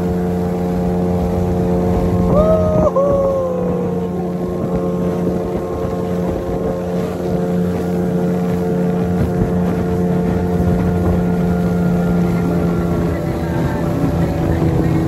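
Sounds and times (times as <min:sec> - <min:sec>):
outboard motor running: 0:00.0 - 0:15.0
wind on microphone: 0:00.0 - 0:15.0.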